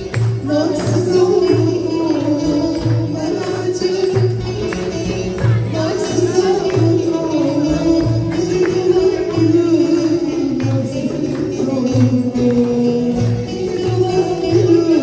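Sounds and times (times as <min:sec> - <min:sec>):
frame drums beating: 0:00.0 - 0:15.0
long-necked lute playing: 0:00.0 - 0:15.0
woman singing through microphone: 0:00.0 - 0:15.0.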